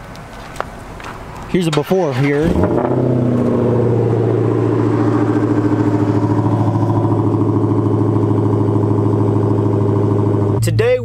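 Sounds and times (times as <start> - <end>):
car engine idling: 0.4 - 11.0.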